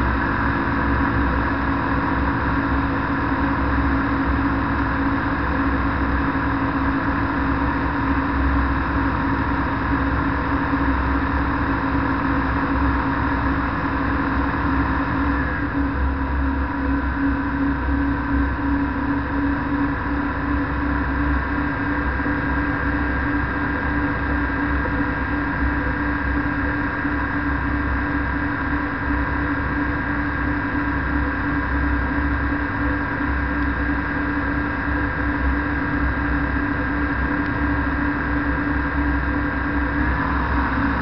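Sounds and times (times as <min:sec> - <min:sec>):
aircraft engine and propeller droning: 0:00.0 - 0:41.0.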